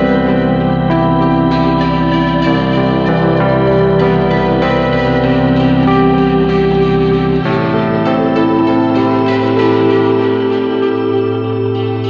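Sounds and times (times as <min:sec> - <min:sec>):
instrumental music with held chords: 0:00.0 - 0:12.0.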